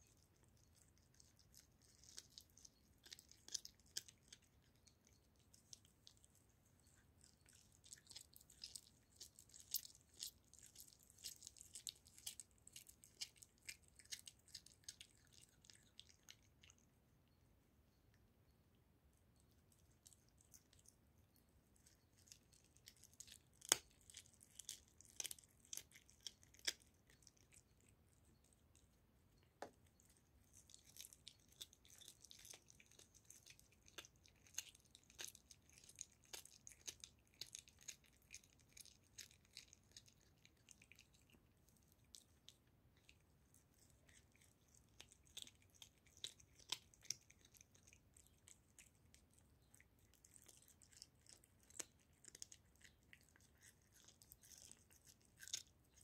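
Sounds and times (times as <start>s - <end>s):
cat chewing raw meat: 0.0s - 17.3s, 19.2s - 56.0s.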